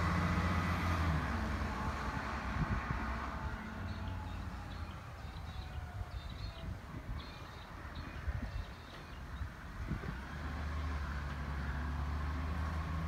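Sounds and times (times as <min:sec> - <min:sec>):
truck diesel engine pulling away: 0:00.0 - 0:06.7, 0:08.6 - 0:13.0.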